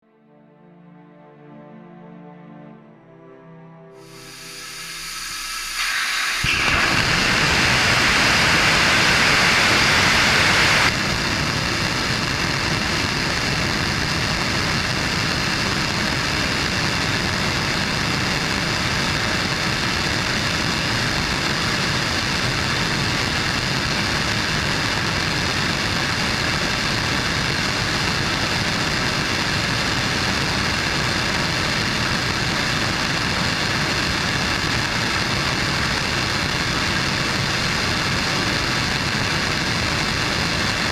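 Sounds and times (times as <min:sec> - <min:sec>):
rocket engine firing: 0:04.1 - 0:40.9.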